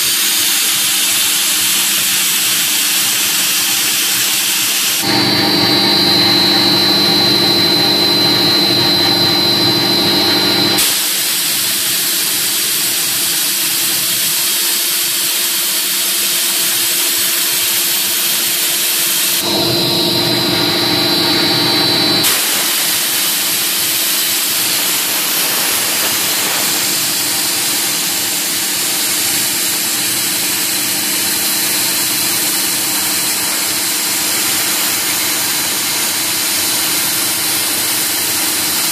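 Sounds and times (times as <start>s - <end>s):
cnc router cutting: 0.0s - 38.9s
multi-tone whine: 0.0s - 38.9s.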